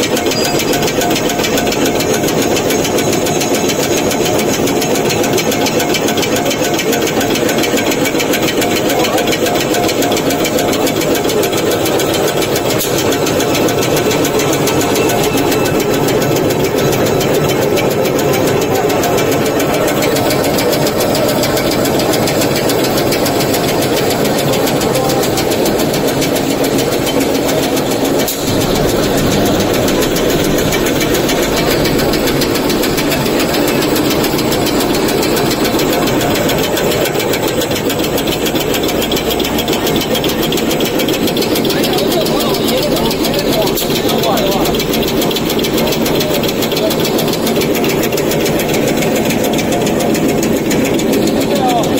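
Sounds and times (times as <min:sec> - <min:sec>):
folding machine mechanical rattle: 0:00.0 - 0:51.9.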